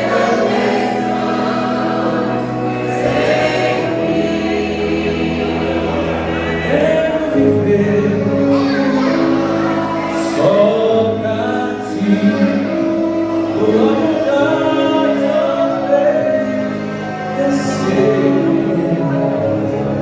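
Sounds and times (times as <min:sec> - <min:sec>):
vocal group singing gospel: 0:00.0 - 0:20.0.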